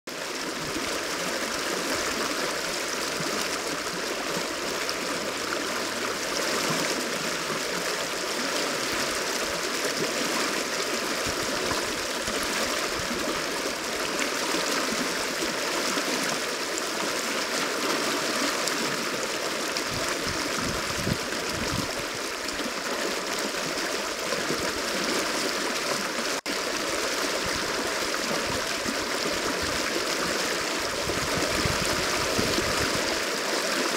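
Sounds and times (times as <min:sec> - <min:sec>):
river rushing over shallows: 0:00.1 - 0:33.9.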